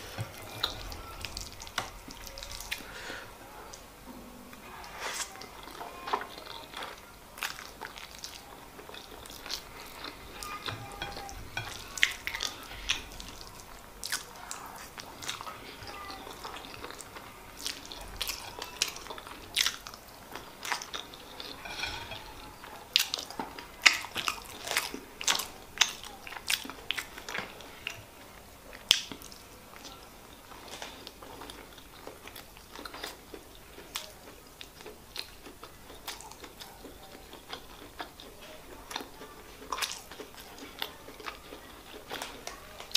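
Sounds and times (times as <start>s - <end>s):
person chewing food: 0.0s - 3.9s, 4.5s - 42.9s.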